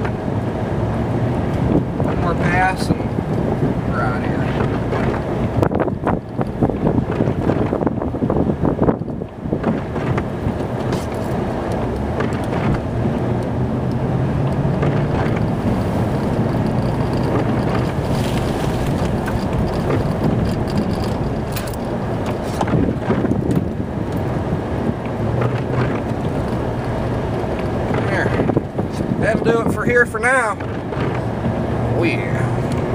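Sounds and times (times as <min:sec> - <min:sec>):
low engine note: 0:00.0 - 0:32.9
plow truck pushing snow: 0:00.0 - 0:32.9.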